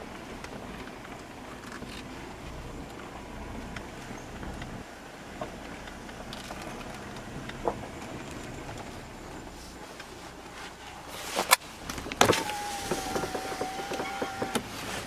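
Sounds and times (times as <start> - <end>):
car interior low rumble: 0.0 - 15.0
small rattles and knocks: 0.4 - 10.1, 11.8 - 15.0.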